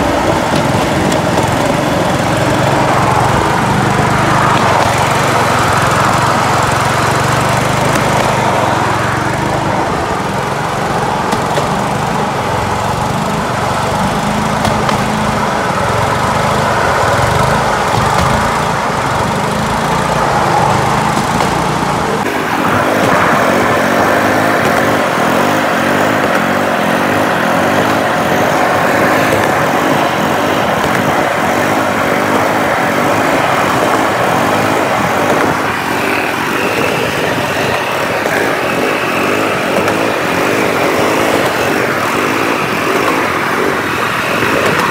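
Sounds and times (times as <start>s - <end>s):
small engine running: 0.0s - 44.9s
trolley rolling on railway track: 0.0s - 44.9s.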